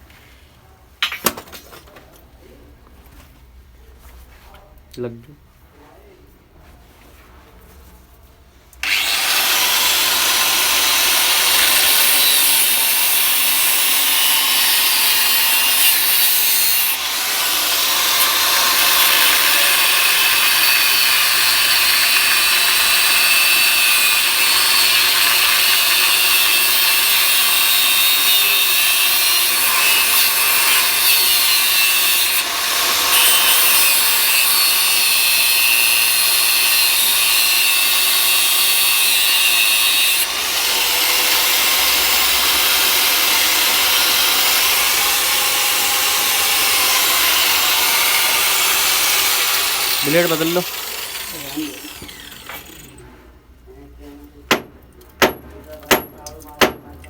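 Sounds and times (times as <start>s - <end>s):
power saw cutting metal pipe: 8.8s - 53.1s, 54.5s - 56.9s.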